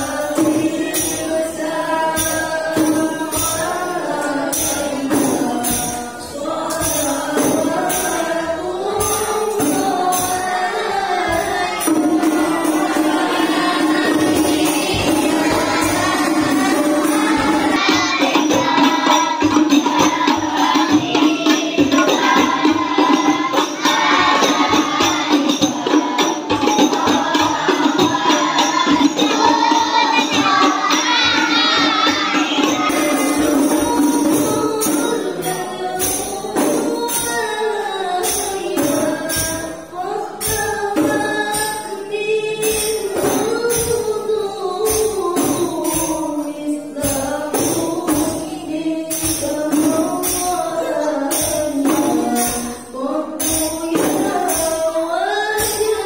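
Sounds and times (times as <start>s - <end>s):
children singing devotional song: 0.0s - 56.0s
frame drums beaten: 0.0s - 56.0s.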